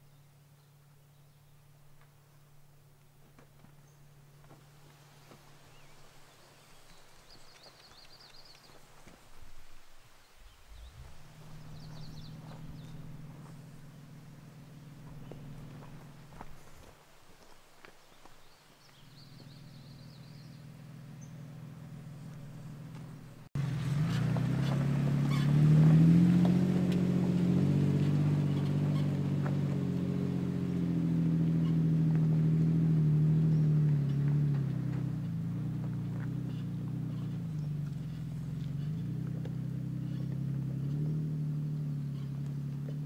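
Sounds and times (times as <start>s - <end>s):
vehicle engine running: 0.0s - 9.2s, 10.5s - 17.0s, 18.8s - 43.0s.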